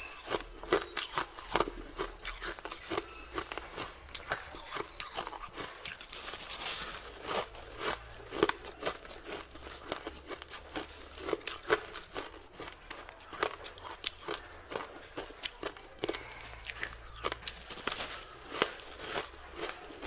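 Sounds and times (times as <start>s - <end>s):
chewing crunchy ice: 0.0s - 20.0s.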